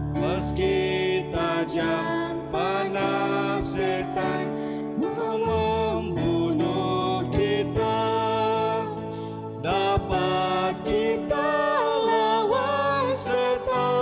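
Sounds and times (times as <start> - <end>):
man and woman singing hymn: 0.0 - 14.0.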